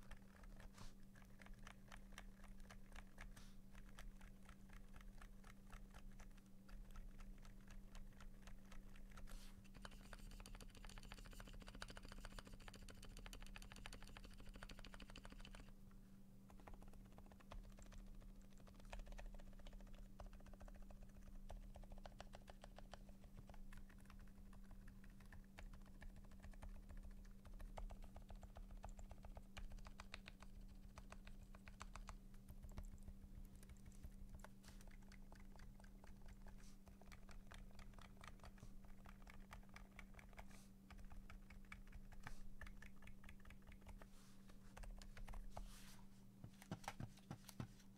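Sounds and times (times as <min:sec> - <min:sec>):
mechanical keyboard typing: 0:00.0 - 0:15.7, 0:16.5 - 0:44.1, 0:44.8 - 0:45.5.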